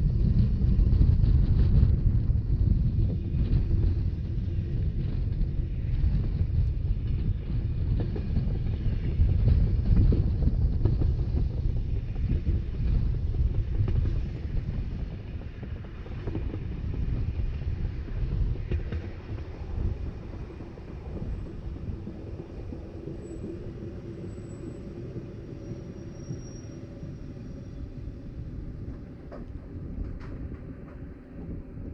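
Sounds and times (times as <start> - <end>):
train wheels rumbling on rails: 0.0 - 31.9
wind buffeting microphone: 0.0 - 31.9.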